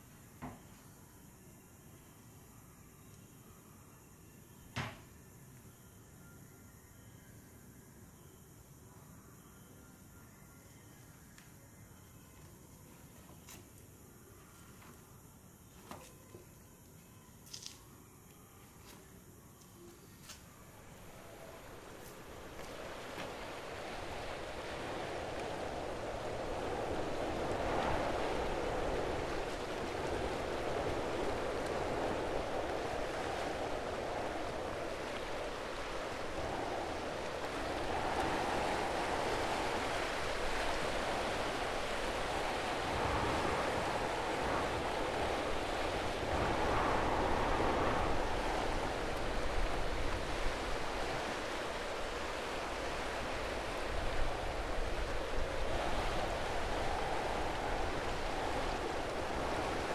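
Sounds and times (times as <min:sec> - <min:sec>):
steady rushing ambient noise: 0:08.9 - 0:59.9.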